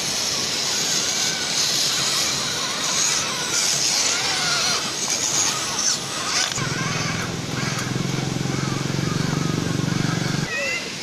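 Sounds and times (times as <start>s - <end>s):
electric motor and gearbox whining: 0.0s - 10.5s
steady hiss: 0.0s - 11.0s.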